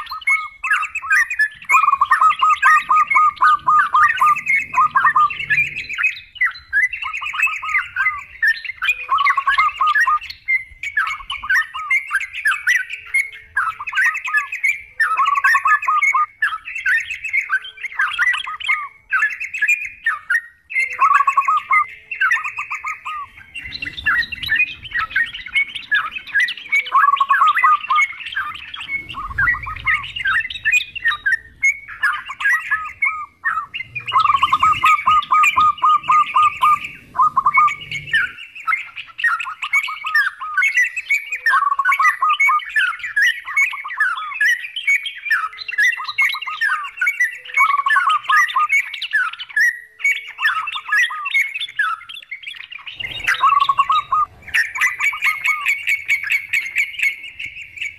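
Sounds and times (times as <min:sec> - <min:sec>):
bulbuls chattering: 0:00.0 - 0:57.9.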